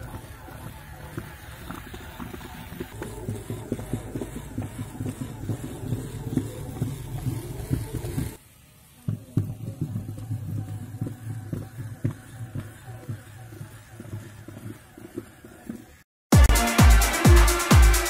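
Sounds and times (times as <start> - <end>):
small motor humming: 0.0 - 16.1.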